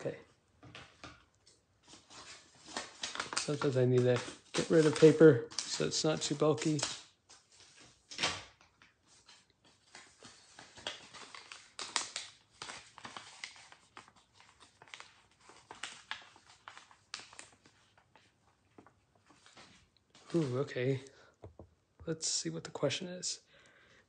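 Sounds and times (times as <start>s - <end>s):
paper rustling and crinkling: 0.6s - 21.1s.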